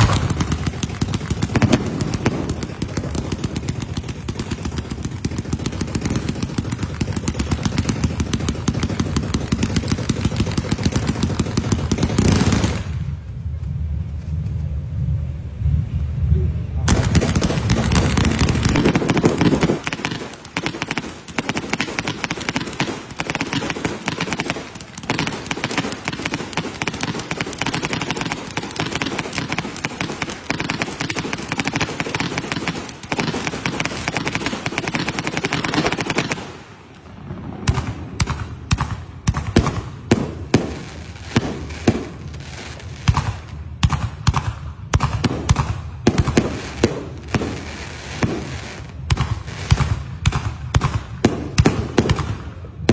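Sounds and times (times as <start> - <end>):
fireworks crackling and banging: 0.0 - 15.0, 16.8 - 52.9.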